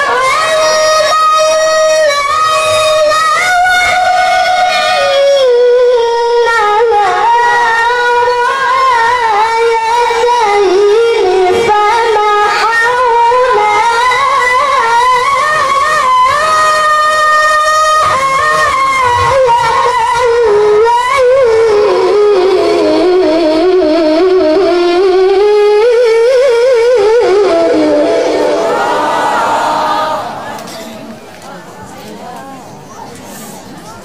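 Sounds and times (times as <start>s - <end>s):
boy chanting recitation: 0.0s - 28.6s.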